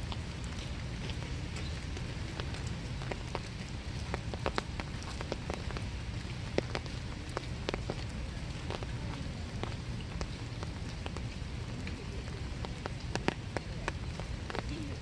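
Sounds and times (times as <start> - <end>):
raindrops tapping close by: 0.0 - 15.0
steady rain: 0.0 - 15.0.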